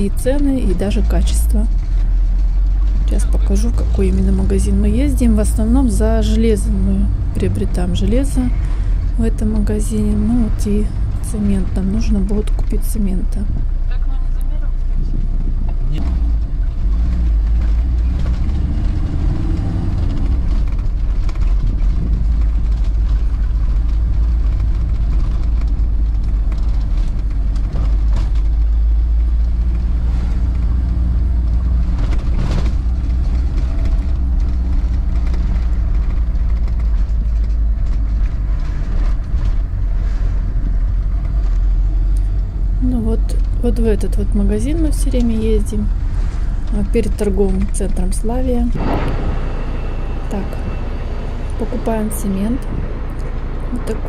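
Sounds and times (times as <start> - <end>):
engine and road rumble: 0.0 - 54.0.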